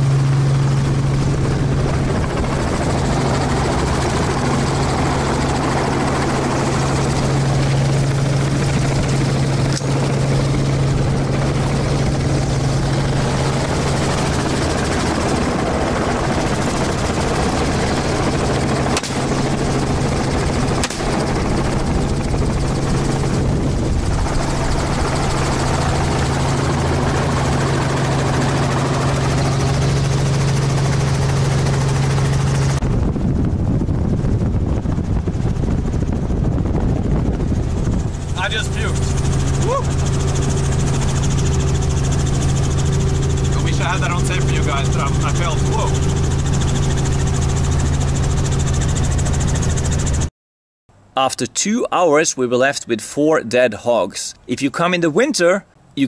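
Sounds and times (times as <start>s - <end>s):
helicopter rotor and engine noise: 0.0s - 50.3s
low hum: 0.0s - 50.3s
wind rush: 0.5s - 50.3s.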